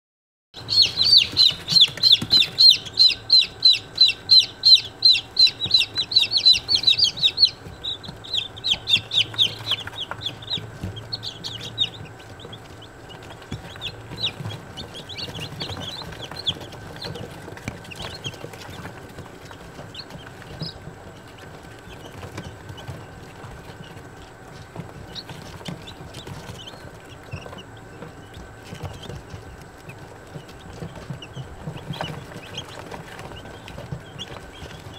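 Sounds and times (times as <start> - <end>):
chicks peeping: 0.6 - 34.9.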